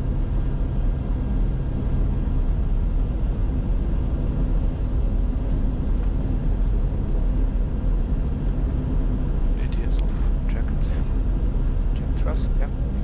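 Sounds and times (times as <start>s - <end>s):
aircraft cockpit airflow and engine rumble: 0.0s - 13.0s.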